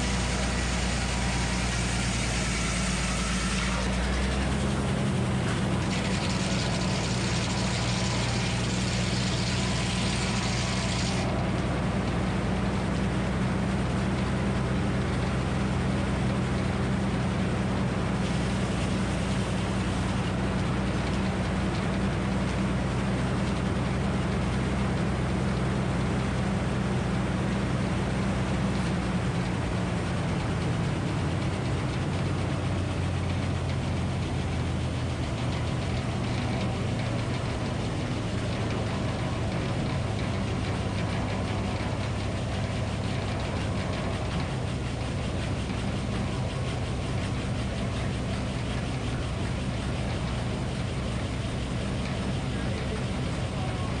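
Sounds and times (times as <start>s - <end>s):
engine running under power: 0.0s - 54.0s.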